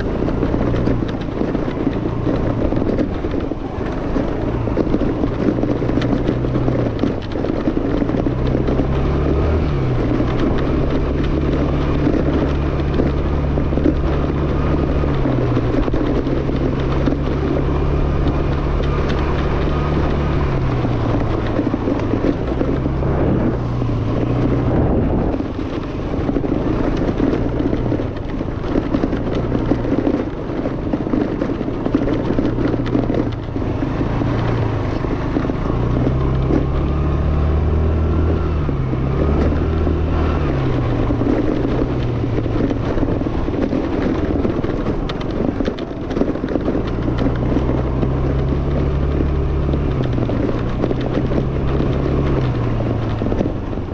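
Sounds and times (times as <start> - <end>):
scooter engine revving: 0.0 - 53.9
wind and road noise: 0.0 - 53.9.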